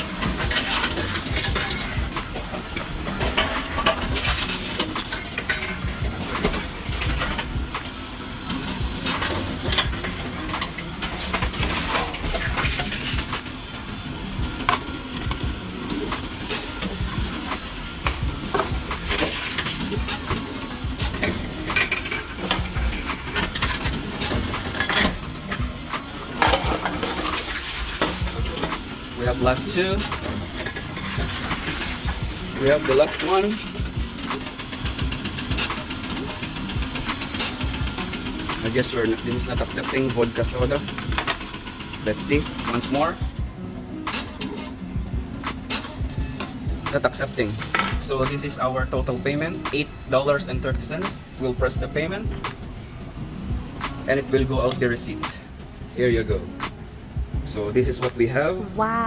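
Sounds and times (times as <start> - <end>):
cans and bottles clattering: 0.0 - 13.6, 14.6 - 43.2, 45.5 - 51.8
low mechanical hum: 0.0 - 59.0.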